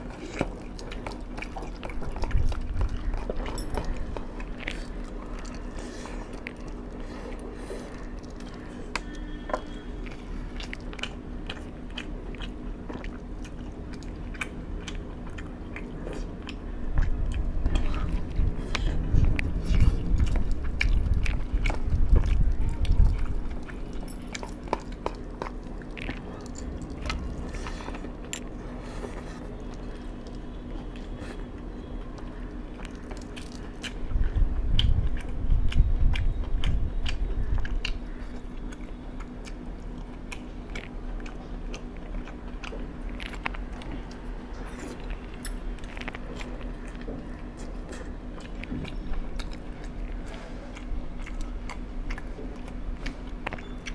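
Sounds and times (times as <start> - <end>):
person chewing crunchy food: 0.0 - 53.9
steady low hum: 0.0 - 53.9.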